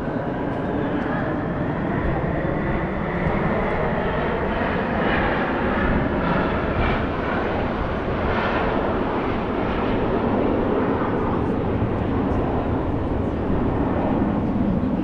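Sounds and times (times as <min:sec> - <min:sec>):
airplane flying overhead: 0:00.0 - 0:15.0.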